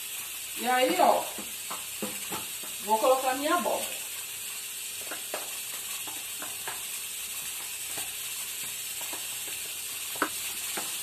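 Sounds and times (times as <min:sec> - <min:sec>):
onion sizzling in a frying pan: 0:00.0 - 0:11.0.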